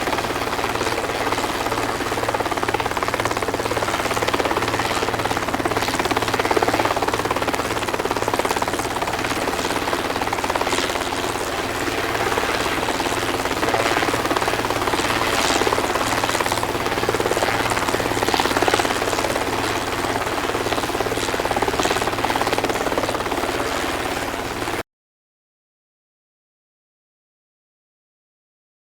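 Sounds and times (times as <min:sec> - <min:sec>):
helicopter hovering: 0:00.0 - 0:24.8.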